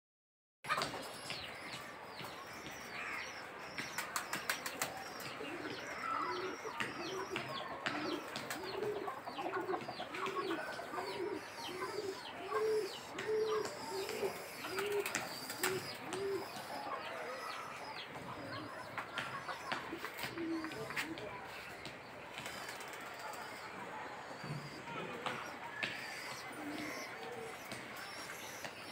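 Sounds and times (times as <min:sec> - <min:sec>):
small birds chirping: 0:00.7 - 0:28.9
pigeons cooing: 0:04.7 - 0:21.6, 0:22.4 - 0:28.9.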